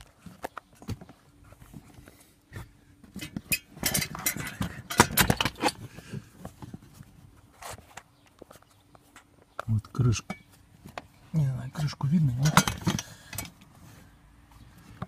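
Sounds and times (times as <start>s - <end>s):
rustling and scraping: 0.0s - 15.0s.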